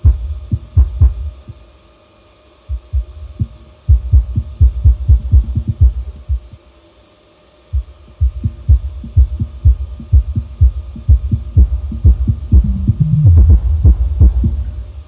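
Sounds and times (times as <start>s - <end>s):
deep bass thumps: 0.0s - 1.5s, 2.7s - 6.6s, 7.8s - 15.0s.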